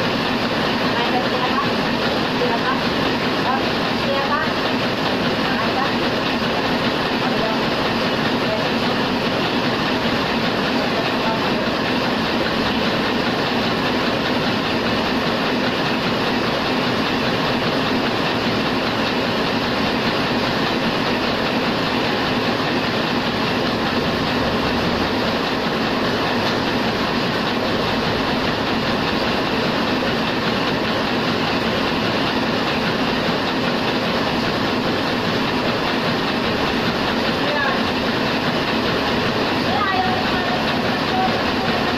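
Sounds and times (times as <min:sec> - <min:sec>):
printing press running: 0:00.0 - 0:41.9.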